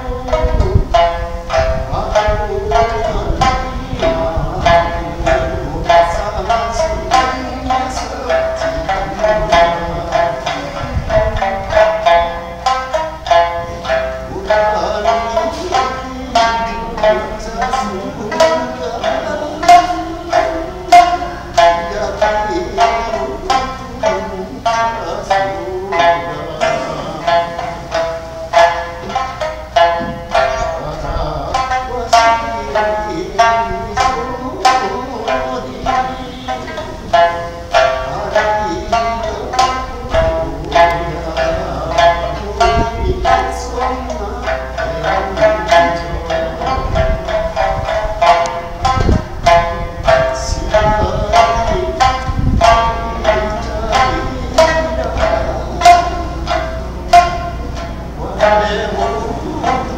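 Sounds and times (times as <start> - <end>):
plucked lute notes: 0.0 - 59.9.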